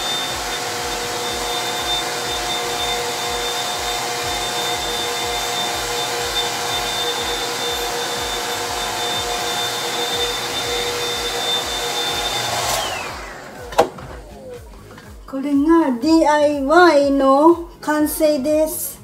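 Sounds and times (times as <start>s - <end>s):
hair dryer blowing with high whine: 0.0s - 15.2s.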